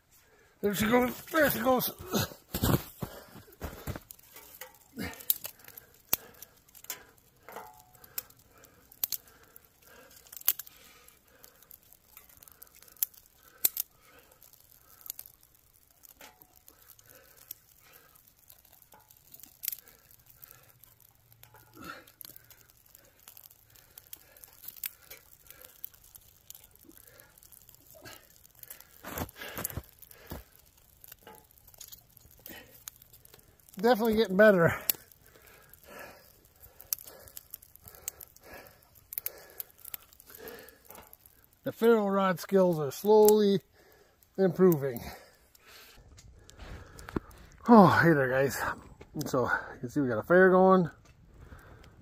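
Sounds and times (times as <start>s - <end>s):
fire crackling: 0.0s - 52.0s
twigs snapping: 1.1s - 41.7s, 45.1s - 47.7s.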